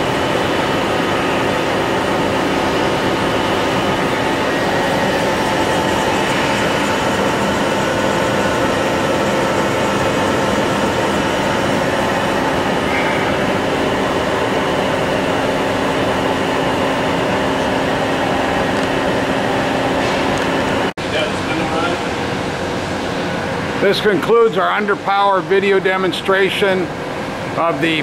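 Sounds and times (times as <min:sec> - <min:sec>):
boring mill mechanical hum: 0:00.0 - 0:28.0.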